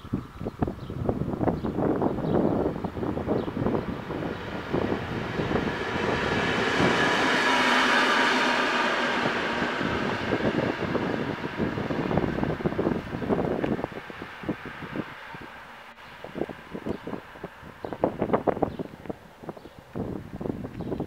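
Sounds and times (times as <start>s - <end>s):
wheels on rails: 0.0s - 21.0s
wind buffeting microphone: 0.0s - 21.0s
diesel locomotive passing: 1.3s - 20.6s.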